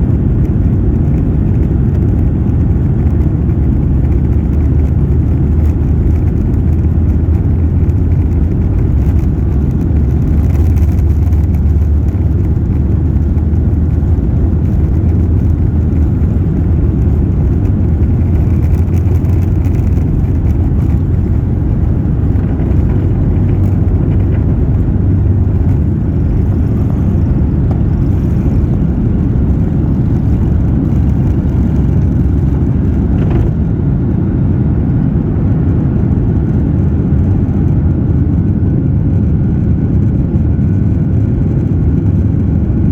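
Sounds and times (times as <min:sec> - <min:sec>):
airplane cabin engine drone: 0:00.0 - 0:42.9.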